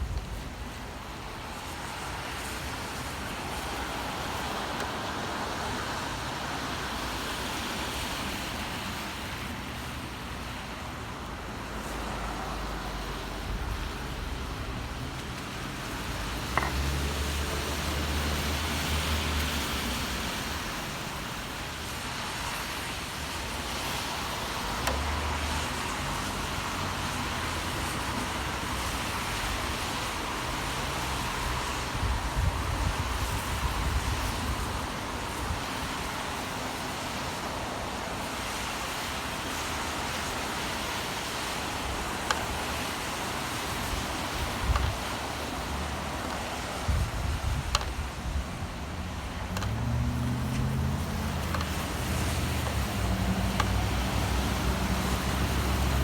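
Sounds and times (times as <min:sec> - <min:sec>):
tyre hiss on wet street: 0:00.0 - 0:56.0.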